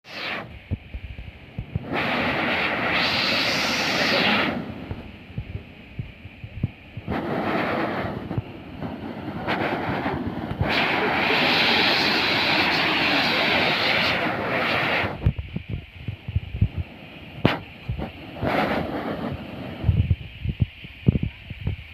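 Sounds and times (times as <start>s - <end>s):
wind buffeting microphone: 0.4s - 21.9s.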